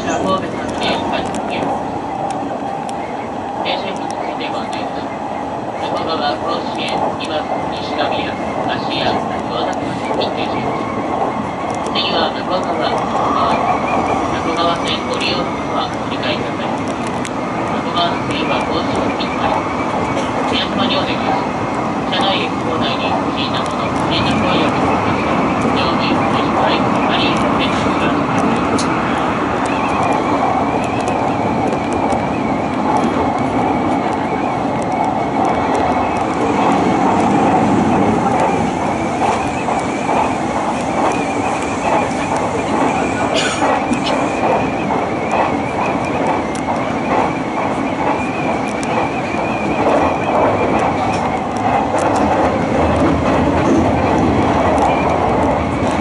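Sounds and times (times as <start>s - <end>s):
rail clicks: 0.0s - 56.0s
train wheels rumbling on track: 0.0s - 56.0s.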